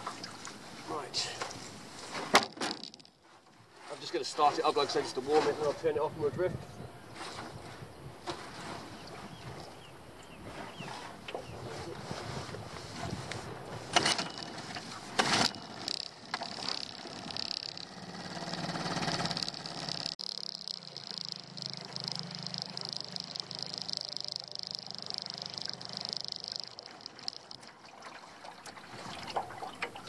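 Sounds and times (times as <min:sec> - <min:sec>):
outboard motor running: 0:03.6 - 0:30.0.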